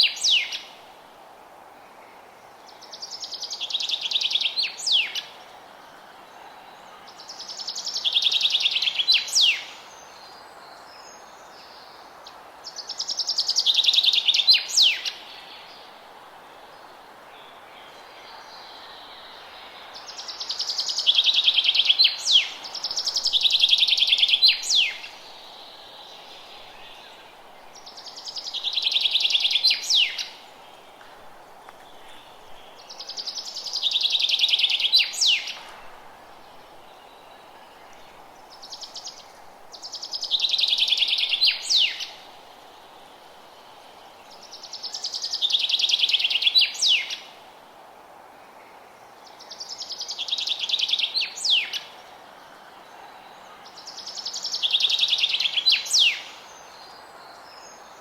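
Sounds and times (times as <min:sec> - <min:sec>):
faint background hiss: 0:00.0 - 0:58.0.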